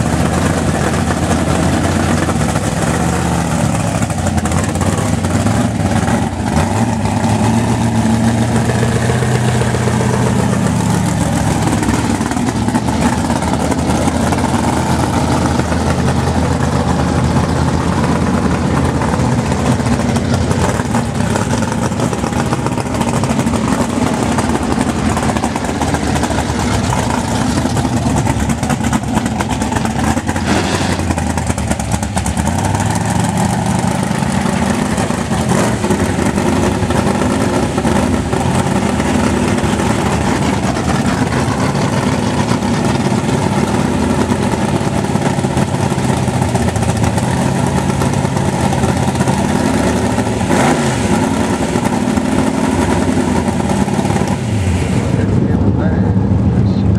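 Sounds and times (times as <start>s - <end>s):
drag car engine idling loudly: 0.0s - 56.9s
engine revving: 0.0s - 56.9s.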